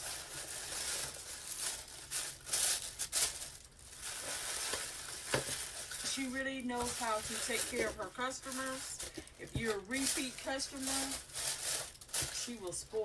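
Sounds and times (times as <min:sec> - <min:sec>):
tissue paper crinkling: 0:00.0 - 0:13.0.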